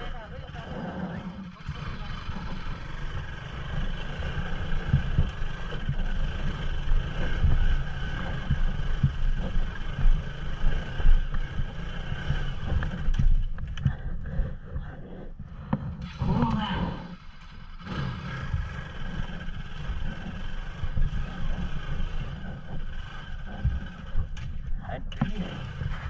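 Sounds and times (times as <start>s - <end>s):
motorcycle engine throbbing: 0.0s - 26.0s.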